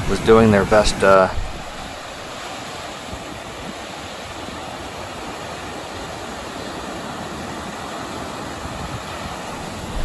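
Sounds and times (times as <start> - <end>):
ocean surf breaking on beach: 0.0 - 10.0.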